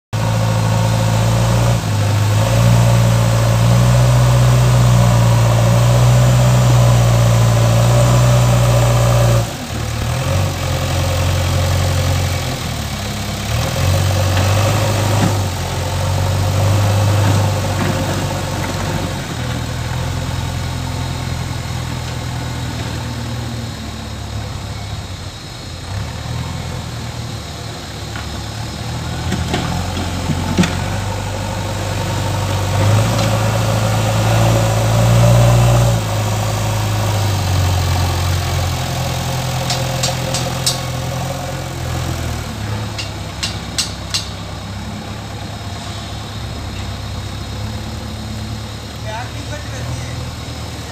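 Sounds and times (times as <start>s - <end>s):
diesel engine under load: 0.1s - 50.9s.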